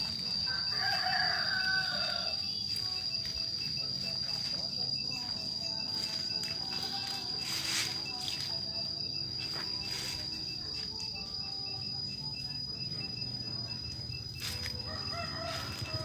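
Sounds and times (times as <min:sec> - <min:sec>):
insect chirping: 0:00.0 - 0:16.0
insect high-pitched drone: 0:00.0 - 0:16.0.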